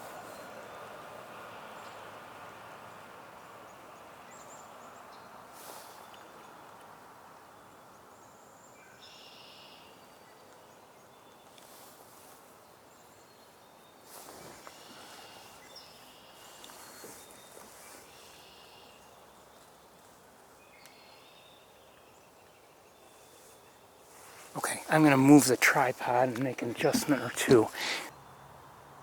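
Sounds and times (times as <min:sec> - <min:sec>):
woodland background hiss: 0:00.0 - 0:29.0.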